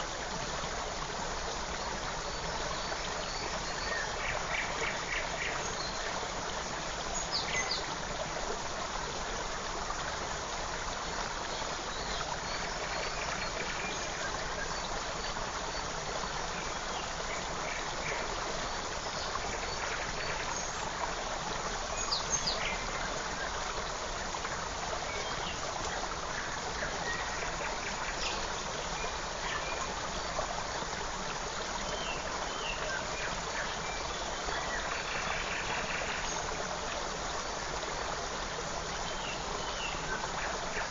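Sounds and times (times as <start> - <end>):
creek flowing: 0.0 - 40.9.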